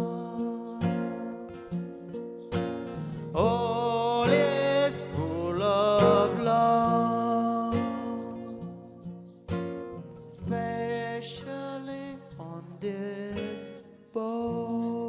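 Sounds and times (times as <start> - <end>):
person singing: 0.0 - 2.2, 2.9 - 9.1, 10.3 - 15.0
acoustic guitar strumming chords: 0.0 - 15.0.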